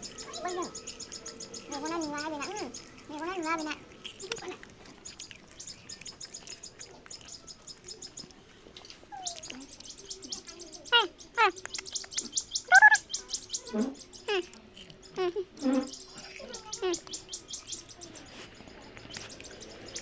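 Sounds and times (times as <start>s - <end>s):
parrots chirping: 0.0s - 20.0s.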